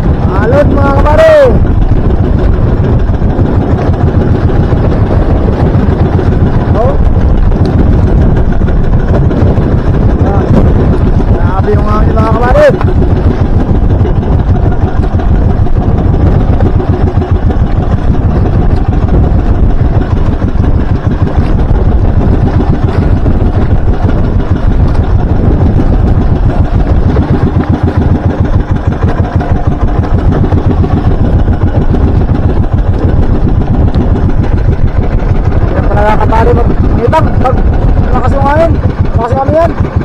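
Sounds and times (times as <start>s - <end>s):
boat engine running: 0.0s - 40.0s
water splashing along hull: 0.0s - 40.0s.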